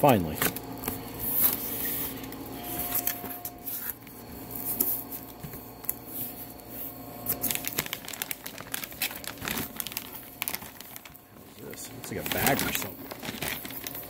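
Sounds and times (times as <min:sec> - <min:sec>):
plastic wrapping rustling: 0:00.1 - 0:14.0.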